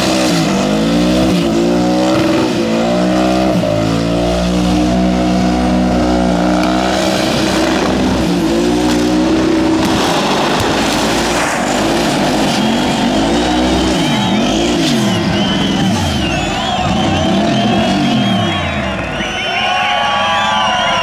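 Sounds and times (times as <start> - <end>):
car engine at high revs: 0.0 - 19.4.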